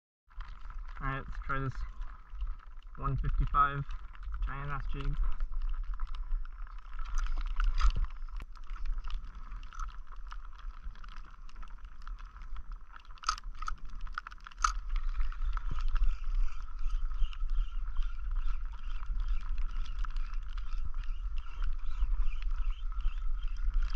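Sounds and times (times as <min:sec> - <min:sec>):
water lapping against kayak hull: 0:00.3 - 0:23.9
wind rumbling on microphone: 0:00.3 - 0:23.9.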